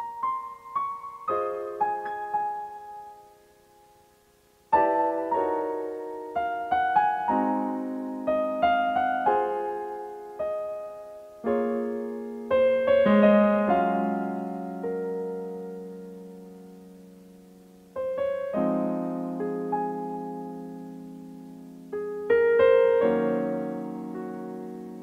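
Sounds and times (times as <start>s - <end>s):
solo piano melody: 0.0s - 25.0s.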